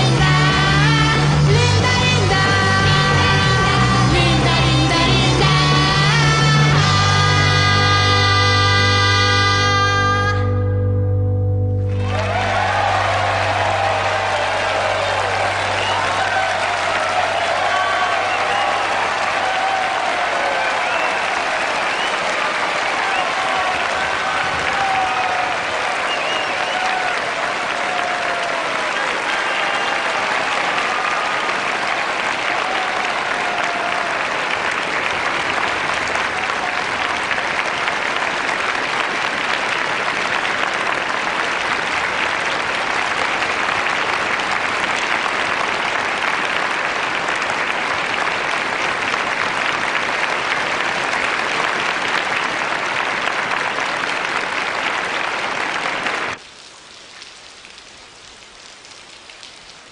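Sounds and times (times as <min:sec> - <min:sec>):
large crowd clapping: 0:00.0 - 0:10.7, 0:11.8 - 0:56.6.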